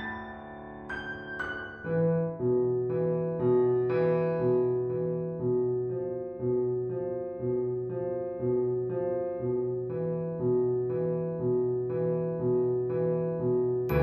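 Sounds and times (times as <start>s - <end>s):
slow repeating piano pattern: 0.0s - 14.0s.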